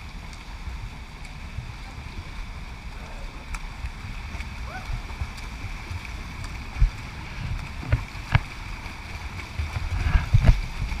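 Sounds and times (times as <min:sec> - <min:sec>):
swimmers splashing: 0:00.0 - 0:11.0.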